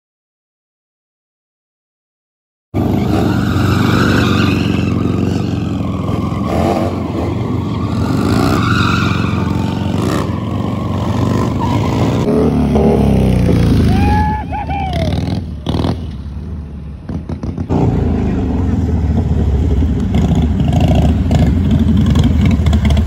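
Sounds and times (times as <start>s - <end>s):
motorcycle engines revving: 2.8s - 23.0s.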